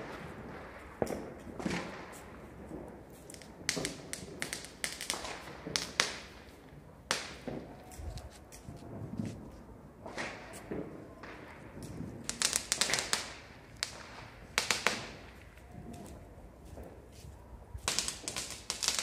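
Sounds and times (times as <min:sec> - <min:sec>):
fireworks cracks and bangs: 0:00.0 - 0:17.1, 0:17.8 - 0:19.0.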